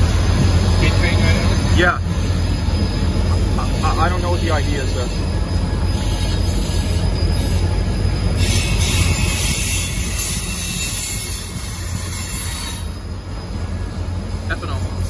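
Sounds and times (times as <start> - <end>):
freight train rolling past: 0.0 - 15.0
steel wheels rattling on rails: 0.0 - 15.0.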